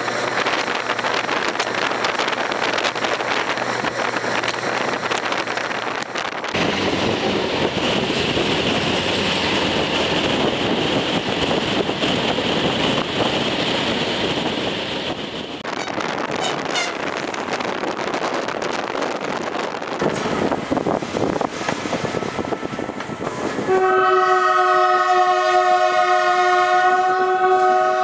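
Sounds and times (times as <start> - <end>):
wind rushing over microphone: 0.0 - 23.8
train carriages running on track: 0.0 - 28.0
train passing close by: 0.0 - 28.0.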